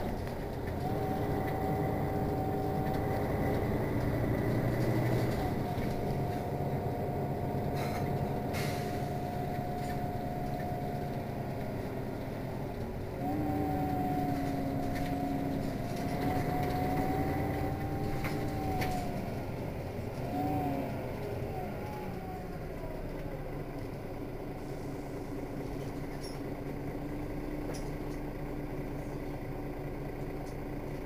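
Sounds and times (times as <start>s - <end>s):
bus engine drone with whine: 0.0s - 31.0s.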